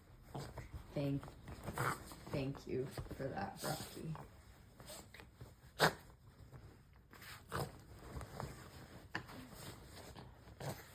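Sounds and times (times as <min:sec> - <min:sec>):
bedding rustling: 0:00.0 - 0:10.9.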